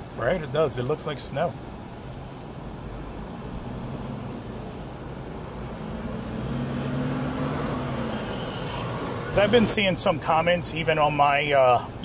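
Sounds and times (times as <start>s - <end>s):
car engine hum: 0.0s - 12.0s
road rumble: 0.0s - 12.0s.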